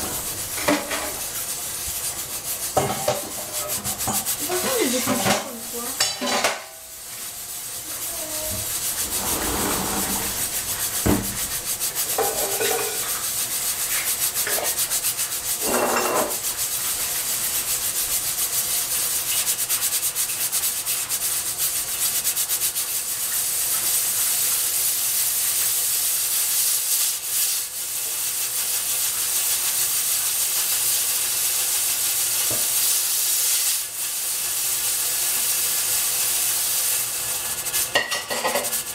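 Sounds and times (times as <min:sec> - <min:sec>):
pressure cooker steam hissing: 0:00.0 - 0:38.9.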